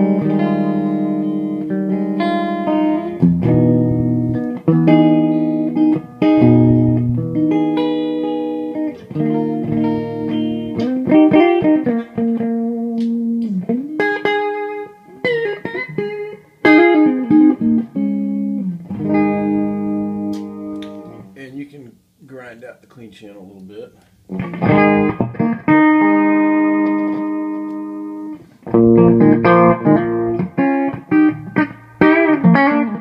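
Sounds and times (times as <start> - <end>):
clean electric guitar: 0.0 - 21.4, 23.6 - 33.0.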